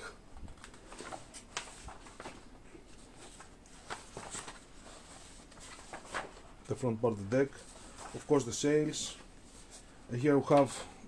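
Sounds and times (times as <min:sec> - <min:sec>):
paper rustling: 0:00.5 - 0:11.0.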